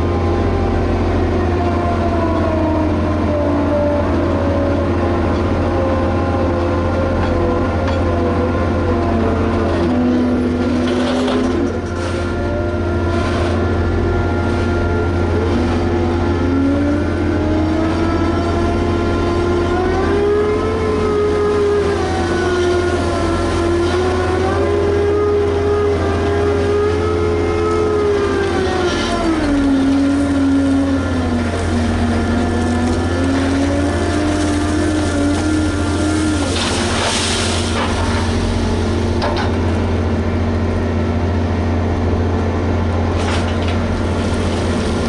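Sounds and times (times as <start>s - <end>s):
diesel engine running hard: 0.0s - 45.0s.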